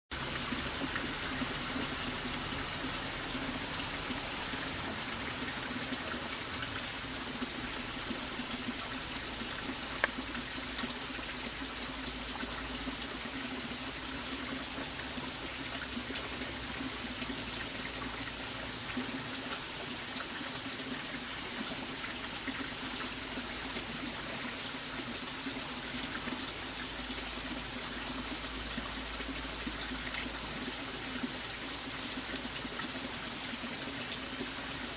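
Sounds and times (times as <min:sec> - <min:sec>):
running water rushing: 0:00.1 - 0:34.9.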